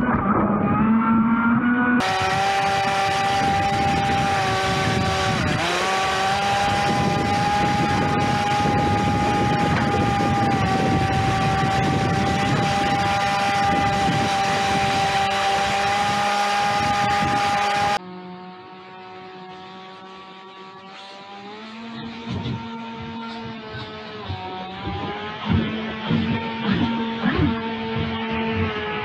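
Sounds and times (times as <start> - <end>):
electric motor whine: 0.4 - 29.0.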